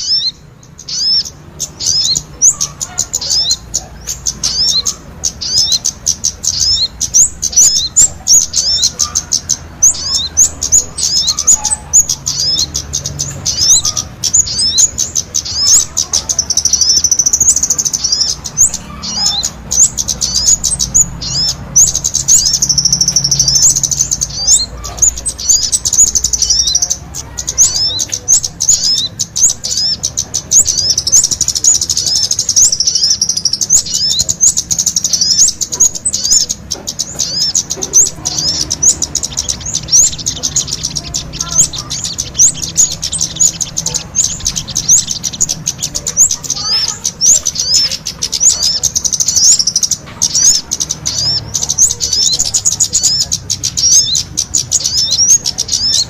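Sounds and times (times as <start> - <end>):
long ringing bird trills: 0.0 - 56.0
songbirds singing: 0.0 - 56.0.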